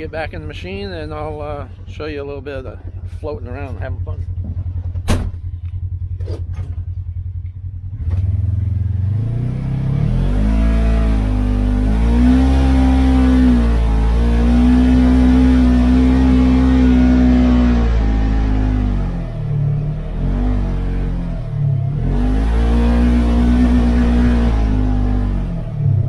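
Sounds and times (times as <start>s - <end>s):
utility vehicle engine revving: 0.0s - 26.0s.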